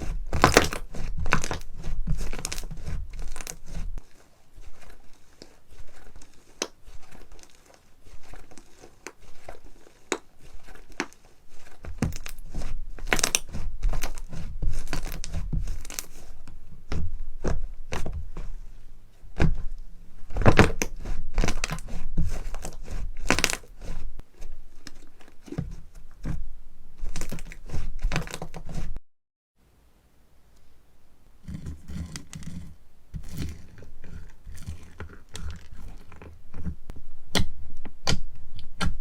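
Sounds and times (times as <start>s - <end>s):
slime crackling and squelching: 0.0s - 29.0s, 31.4s - 38.9s.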